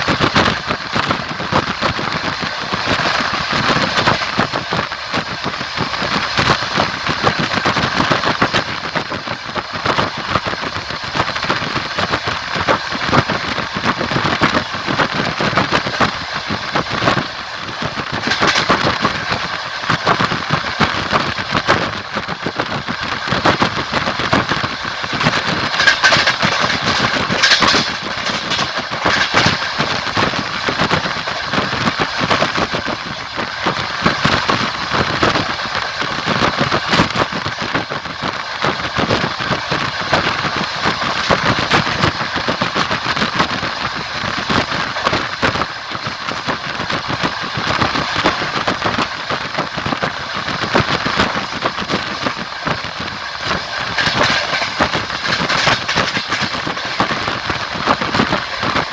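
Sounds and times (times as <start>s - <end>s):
train wheels rumbling on rails: 0.0s - 58.9s
wheels clattering over rail joints: 0.0s - 58.9s.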